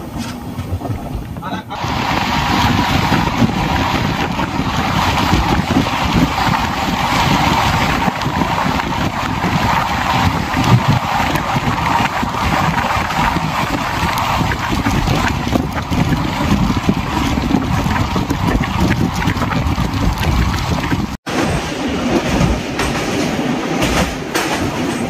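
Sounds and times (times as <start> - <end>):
train rumbling and rattling on rails: 0.0 - 25.0
wind buffeting microphone: 0.0 - 25.0.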